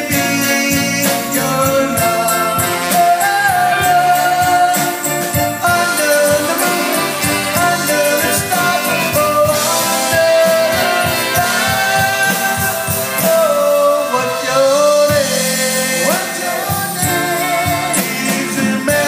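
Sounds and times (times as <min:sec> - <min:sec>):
horn section melody: 0:00.0 - 0:19.0
live band playing: 0:00.0 - 0:19.0.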